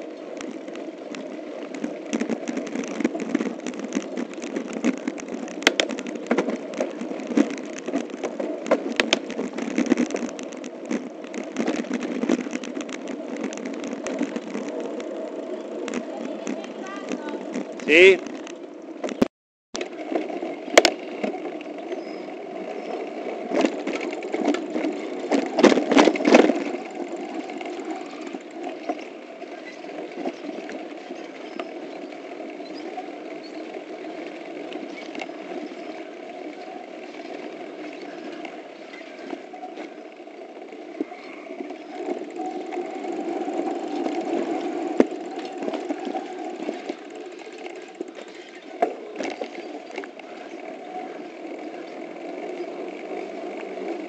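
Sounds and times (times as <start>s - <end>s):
bike tyres rumbling on dirt: 0.0s - 54.0s
bike parts rattling: 0.5s - 19.2s, 20.0s - 54.0s.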